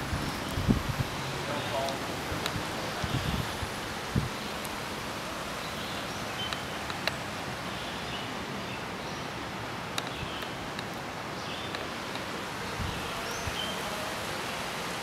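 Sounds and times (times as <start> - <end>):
outdoor ambient hiss: 0.0 - 15.0.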